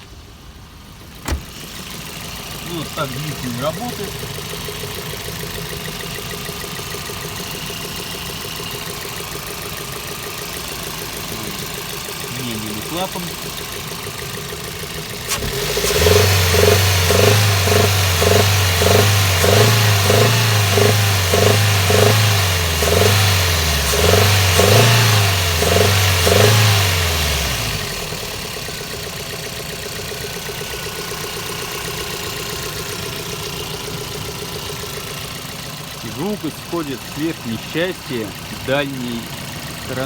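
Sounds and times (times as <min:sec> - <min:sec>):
car engine idling: 0:00.0 - 0:40.0
car engine revving in pulses: 0:01.3 - 0:40.0.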